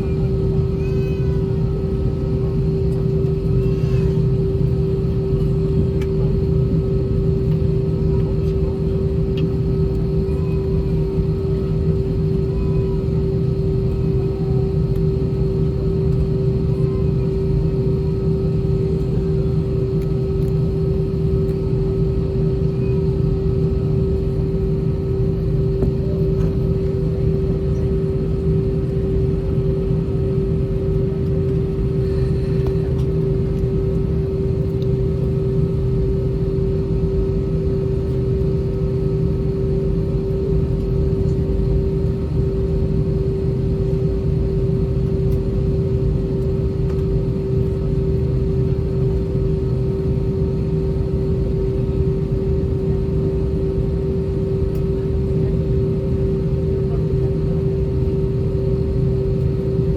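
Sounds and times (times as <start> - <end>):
constant hum tone: 0.0 - 59.9
jet engines idling: 0.0 - 59.9.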